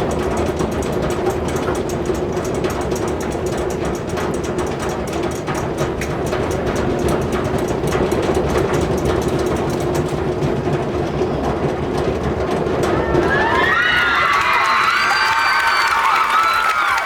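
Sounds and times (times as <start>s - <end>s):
drum roll: 0.0s - 17.0s.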